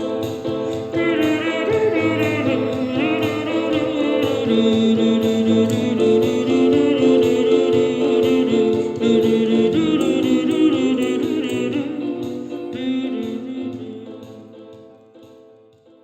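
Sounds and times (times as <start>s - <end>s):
electronic keyboard music: 0.0s - 16.0s
woman singing pop song: 0.3s - 14.4s.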